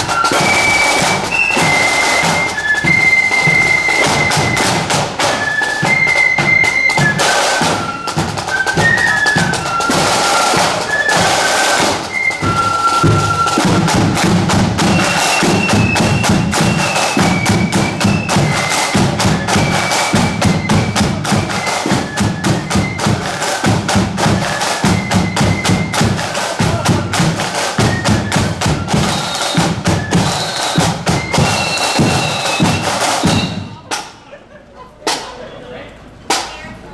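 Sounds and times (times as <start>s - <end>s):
flutes playing a march: 0.0s - 34.0s
snare drum rolls: 0.0s - 34.2s.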